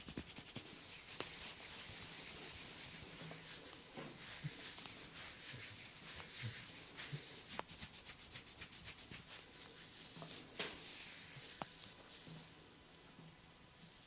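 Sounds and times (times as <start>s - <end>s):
fingers scratching through hair: 0.0s - 12.5s
crisp scratching strokes: 0.0s - 12.6s.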